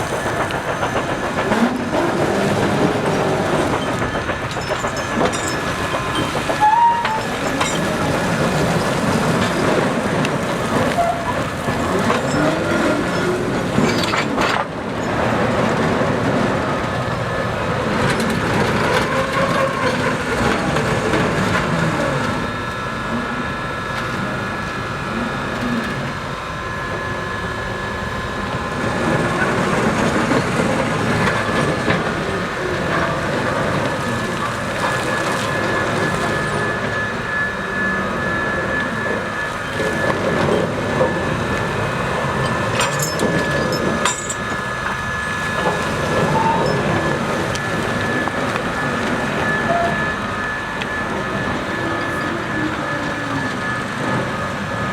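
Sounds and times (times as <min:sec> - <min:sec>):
thin steady squeal: 0:00.0 - 0:54.9
train wheels and couplings clattering: 0:00.0 - 0:54.9.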